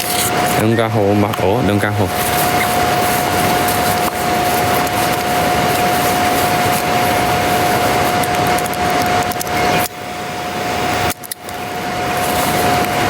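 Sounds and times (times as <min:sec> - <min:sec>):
machine hissing and whining: 0:00.0 - 0:13.0.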